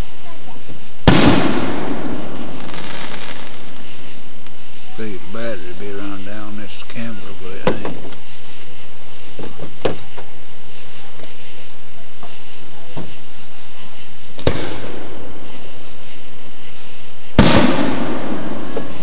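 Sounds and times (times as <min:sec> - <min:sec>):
crickets chirping: 0:00.0 - 0:19.0
fireworks bursting: 0:00.0 - 0:19.0
fireworks crackle: 0:00.0 - 0:19.0.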